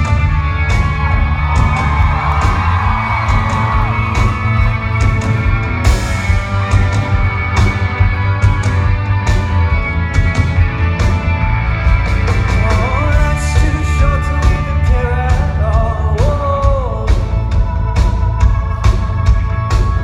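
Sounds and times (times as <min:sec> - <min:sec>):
heavy bass line: 0:00.0 - 0:20.0
live rock band playing: 0:00.0 - 0:20.0.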